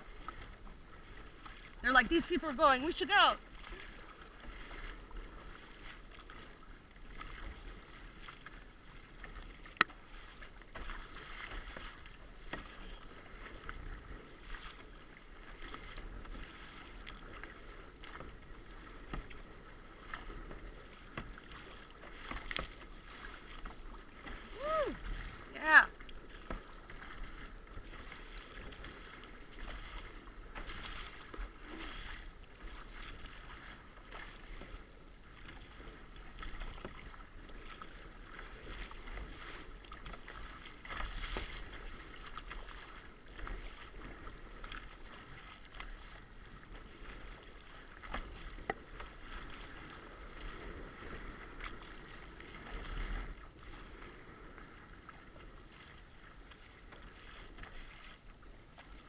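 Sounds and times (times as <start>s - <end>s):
paddle strokes splashing water: 0.0s - 59.0s
waves slapping kayak hull: 0.0s - 59.0s.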